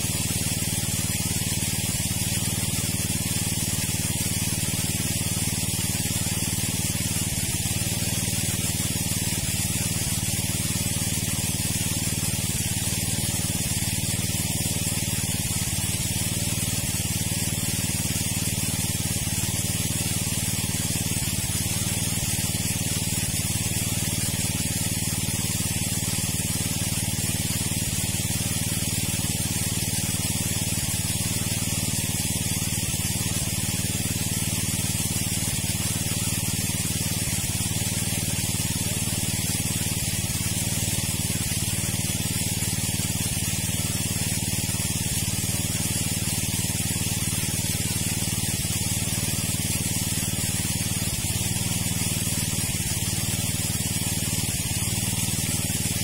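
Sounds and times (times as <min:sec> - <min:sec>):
water pump motor drone: 0:00.0 - 0:56.0.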